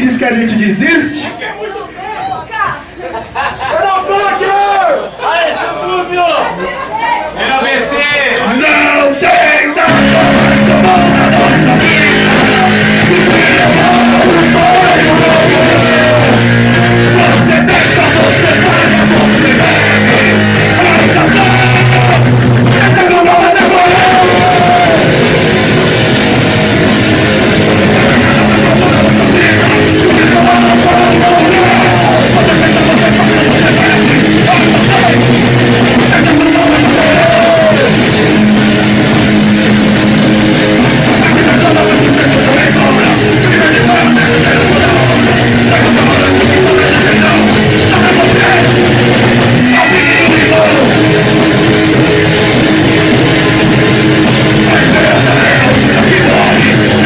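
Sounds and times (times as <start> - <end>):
punk rock band playing live: 8.4 - 57.0.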